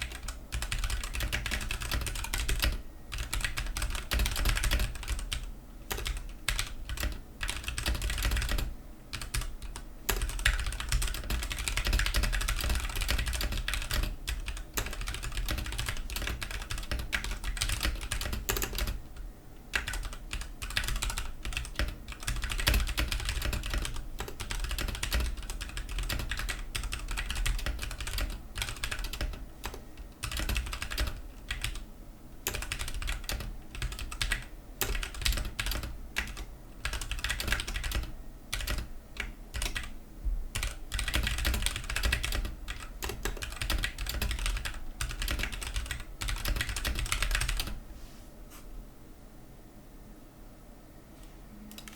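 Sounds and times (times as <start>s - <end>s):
typing on mechanical keyboard: 0.0s - 19.0s, 19.8s - 31.8s, 32.4s - 39.9s, 40.6s - 47.8s.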